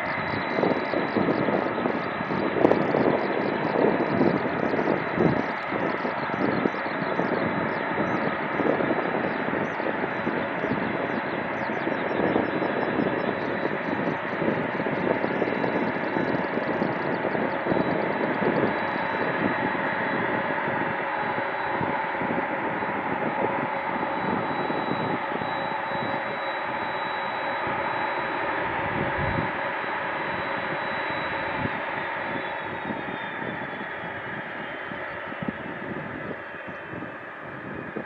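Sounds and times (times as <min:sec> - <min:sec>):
jet engines idling: 0:00.0 - 0:38.0.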